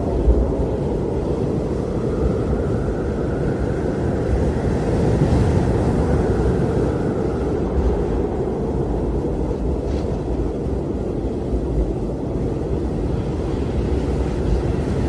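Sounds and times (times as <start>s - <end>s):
blizzard wind rumbling: 0.0s - 15.0s.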